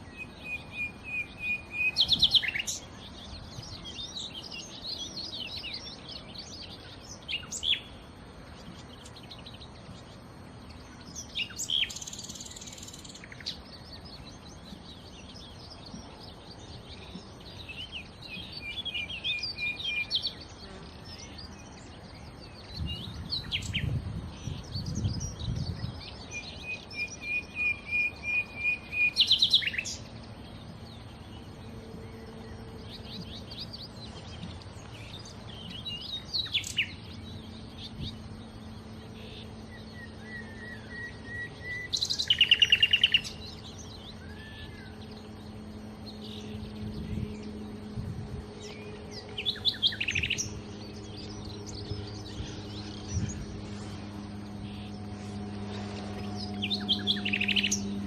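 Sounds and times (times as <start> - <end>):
nightingale singing: 0.0 - 53.6, 56.0 - 58.0.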